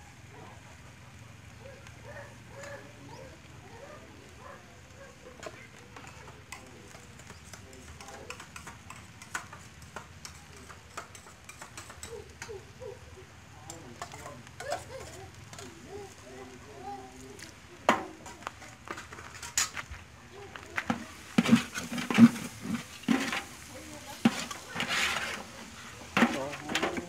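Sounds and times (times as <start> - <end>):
faint voices: 0.0 - 9.3, 10.2 - 27.0
wood fire crackling: 0.0 - 27.0.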